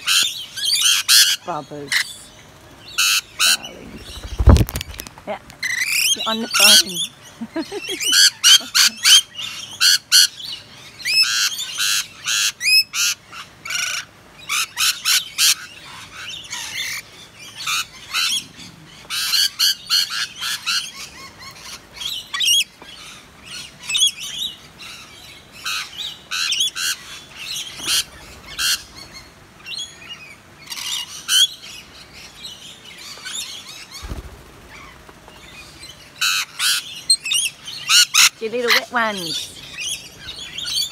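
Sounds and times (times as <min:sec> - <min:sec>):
parrots screeching and chattering: 0:00.0 - 0:40.9.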